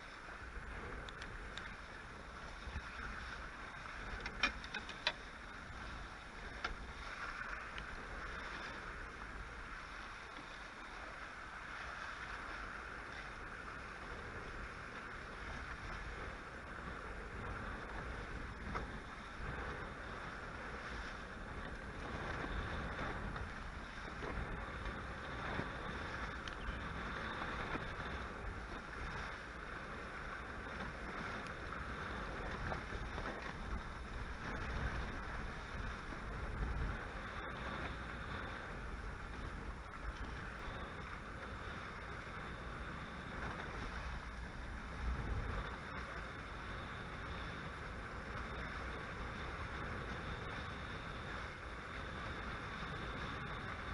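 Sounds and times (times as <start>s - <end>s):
rush of wind and water: 0.0s - 53.9s
wind buffeting microphone: 0.0s - 53.9s.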